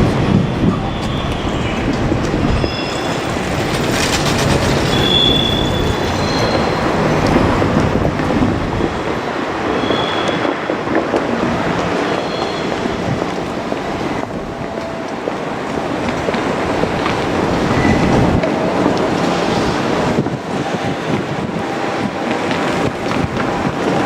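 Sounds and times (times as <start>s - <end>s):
diesel train rumble and clatter: 0.0s - 24.0s
wheel squeals: 0.6s - 14.4s, 16.0s - 21.8s.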